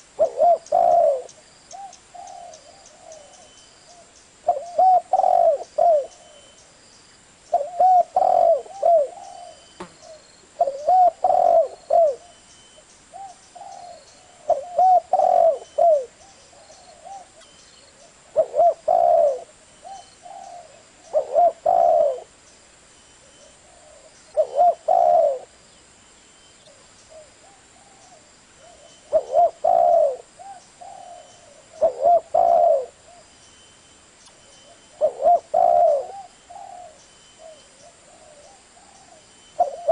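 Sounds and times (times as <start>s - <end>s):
dove cooing: 0.0s - 6.5s, 7.5s - 12.4s, 13.1s - 22.4s, 23.3s - 25.6s, 26.7s - 33.3s, 34.6s - 39.9s.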